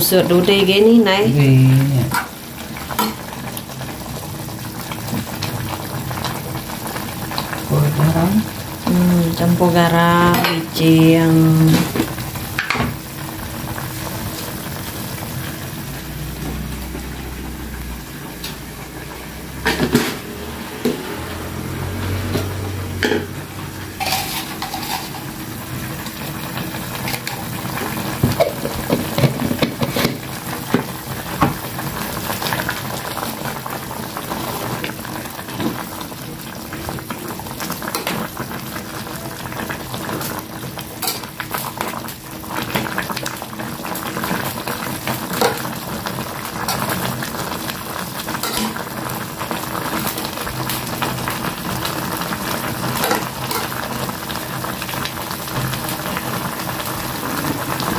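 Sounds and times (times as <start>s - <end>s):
pot of vegetables boiling: 0.0s - 57.9s.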